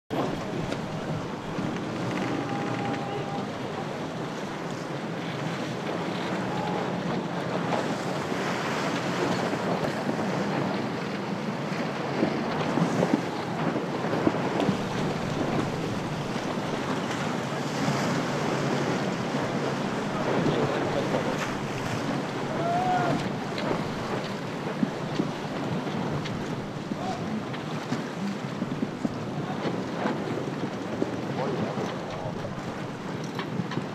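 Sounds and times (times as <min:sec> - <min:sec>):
sea water splashing: 0:00.1 - 0:33.9
wind buffeting microphone: 0:00.1 - 0:33.9.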